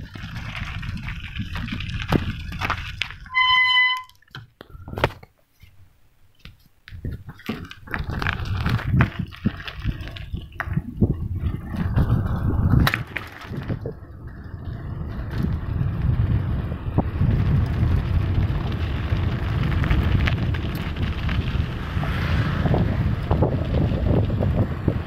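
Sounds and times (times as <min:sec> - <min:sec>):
wind rumbling on microphone: 0:00.0 - 0:04.0, 0:06.9 - 0:25.0.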